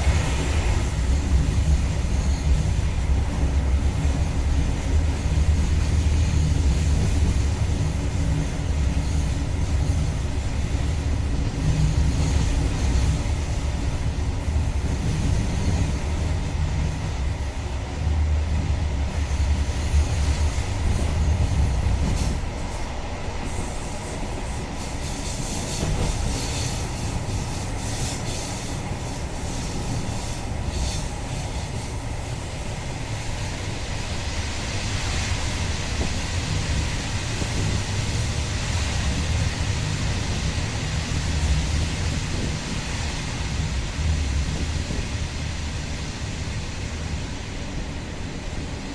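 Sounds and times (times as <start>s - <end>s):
train rumbling on track: 0.0s - 48.9s.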